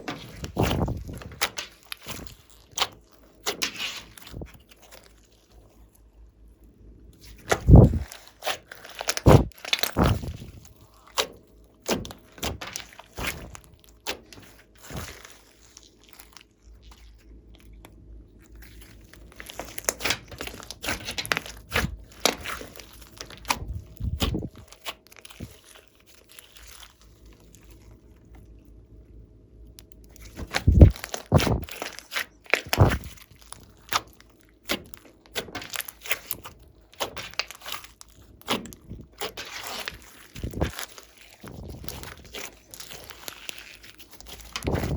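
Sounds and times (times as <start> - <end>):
slime squishing crackles and pops: 0.0 - 5.5, 7.2 - 27.9, 29.8 - 44.9.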